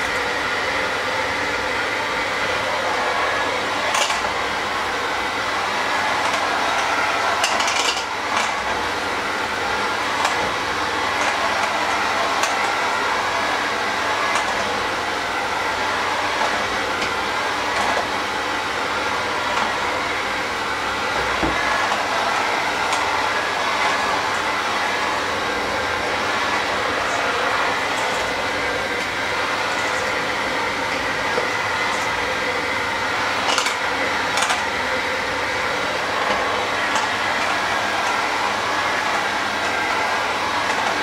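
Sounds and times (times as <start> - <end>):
electric hand mixer running: 0.0 - 41.0.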